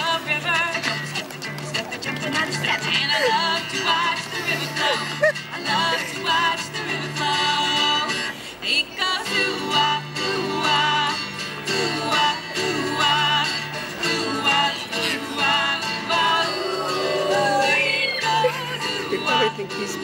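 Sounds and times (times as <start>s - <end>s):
upbeat song with singing: 0.0s - 20.0s.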